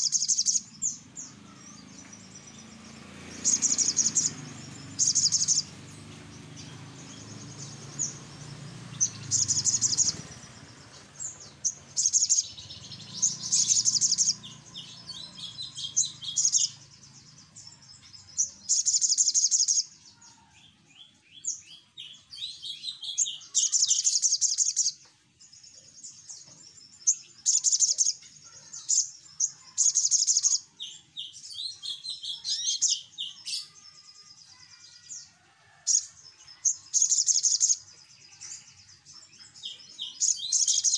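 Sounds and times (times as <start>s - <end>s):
sunbird trilling and twittering: 0.0s - 40.9s.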